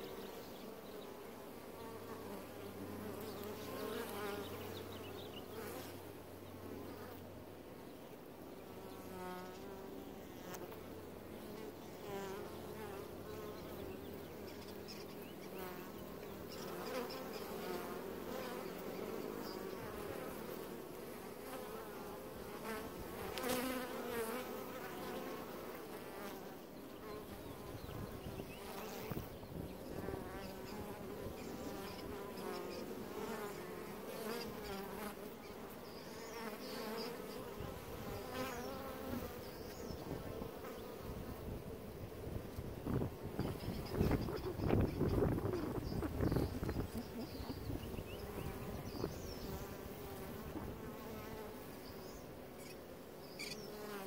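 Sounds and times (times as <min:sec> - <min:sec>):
single bee flying past: 0:00.0 - 0:07.4, 0:08.6 - 0:54.0
bees humming at hive: 0:00.0 - 0:54.0.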